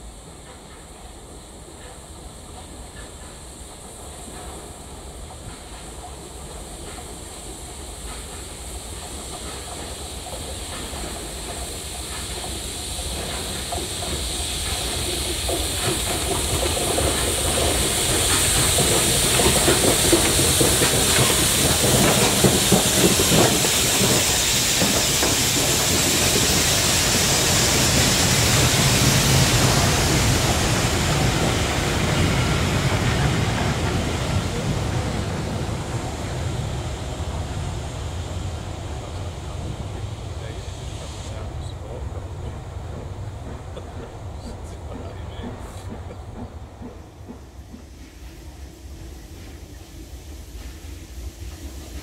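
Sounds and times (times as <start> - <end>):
steam hissing: 0.0 - 52.0
steam locomotive rumbling: 0.0 - 52.0
train wheels clattering on track: 0.0 - 52.0.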